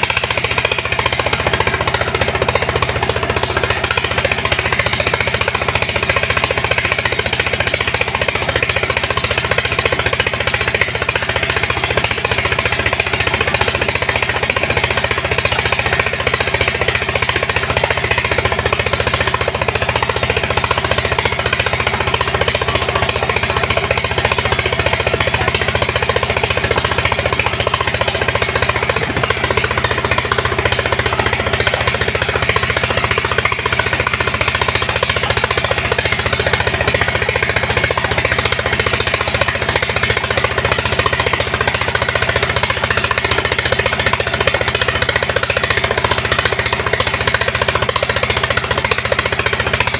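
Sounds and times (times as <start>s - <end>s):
pump engine knocking steadily: 0.0s - 49.9s.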